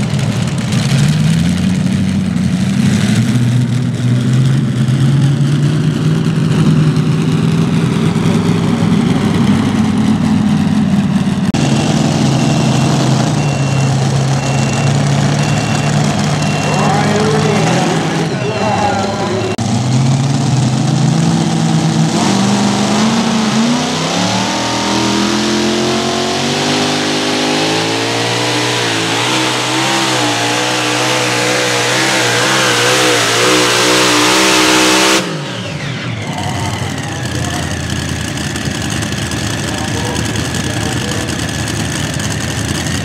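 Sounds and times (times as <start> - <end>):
quieter engine running: 0.0 - 33.4, 35.2 - 43.0
engine at full throttle: 0.0 - 43.0.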